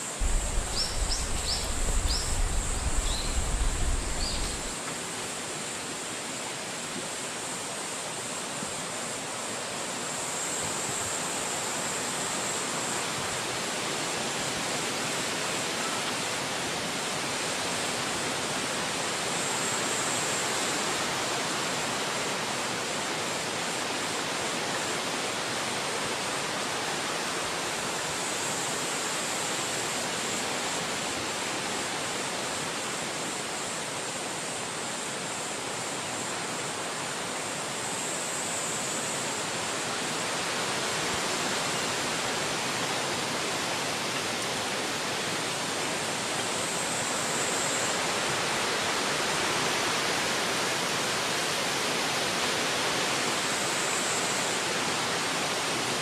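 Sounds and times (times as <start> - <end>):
wind blowing through trees: 0.0 - 56.0.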